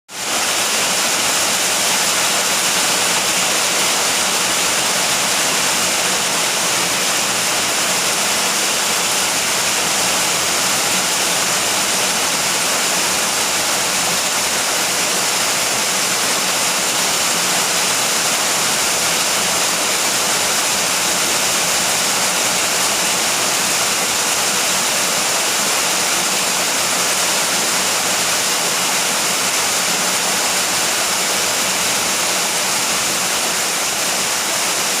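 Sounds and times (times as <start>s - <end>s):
steady rain falling: 0.2s - 35.0s.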